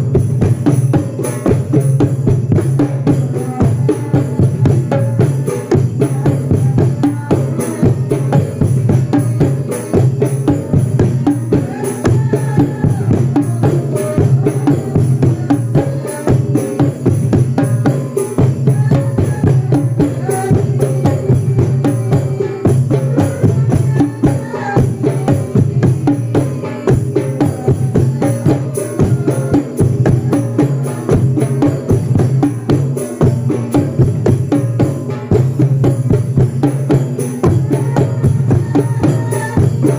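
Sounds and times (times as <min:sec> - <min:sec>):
fast drum beat: 0:00.0 - 0:39.9.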